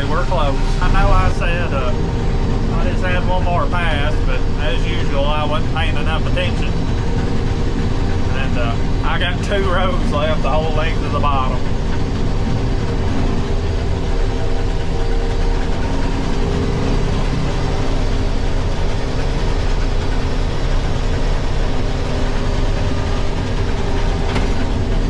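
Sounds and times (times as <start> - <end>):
combine harvester droning: 0.0 - 25.0.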